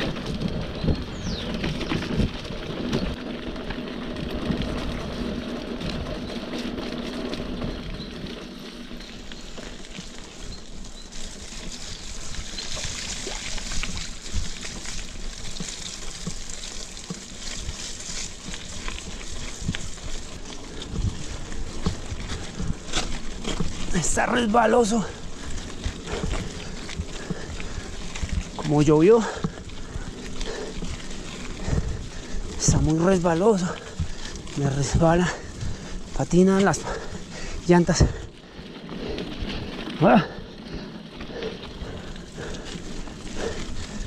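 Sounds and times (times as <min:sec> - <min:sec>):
bike clicks and rattles: 0:00.0 - 0:44.0
bike tyres rolling through mud: 0:00.0 - 0:44.0.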